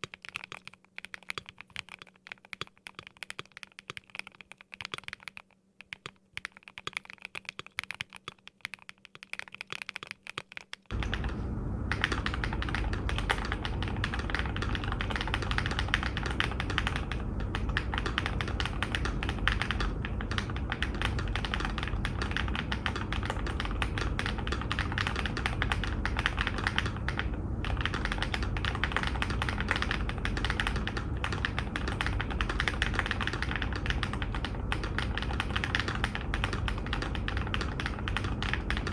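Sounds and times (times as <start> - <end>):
low background noise: 0.0 - 38.9
typing on mechanical keyboard: 0.0 - 38.9.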